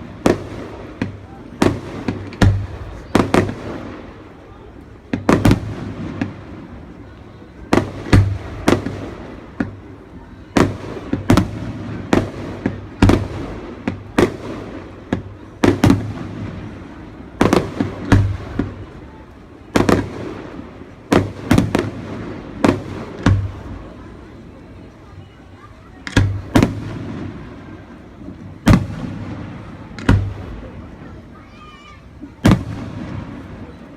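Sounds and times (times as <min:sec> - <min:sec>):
fireworks bangs with rumbling echo: 0:00.0 - 0:33.9.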